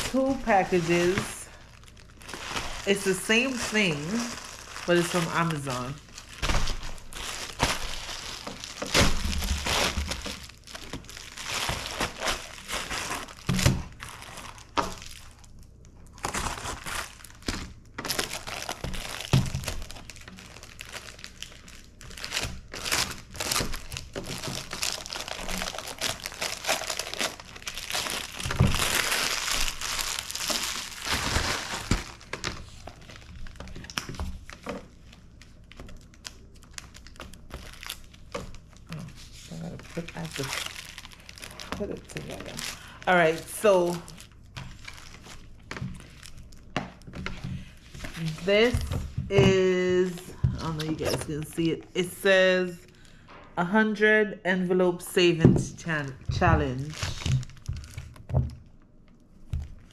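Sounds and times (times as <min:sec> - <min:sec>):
plastic packaging crinkling: 0:00.0 - 0:51.6, 0:56.0 - 0:59.9.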